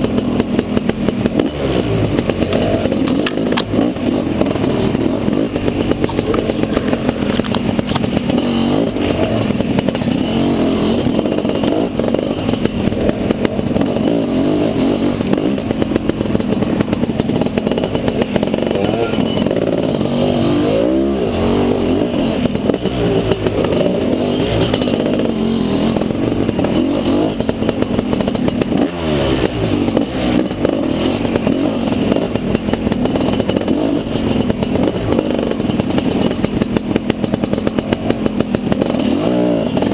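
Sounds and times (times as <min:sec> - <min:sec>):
dirt bike engine revving: 0:00.0 - 0:39.9
steady rush of noise: 0:00.0 - 0:39.9.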